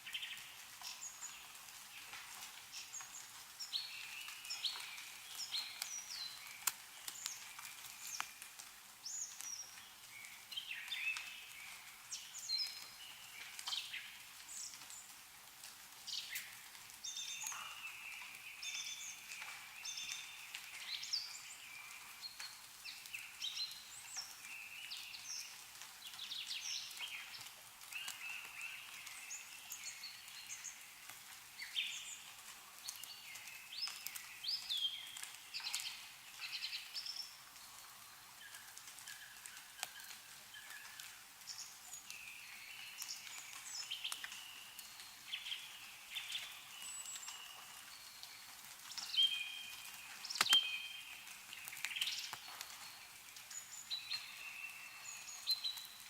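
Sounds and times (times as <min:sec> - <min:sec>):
small birds chirping: 0:00.0 - 0:56.0
water drips falling: 0:00.0 - 0:56.0.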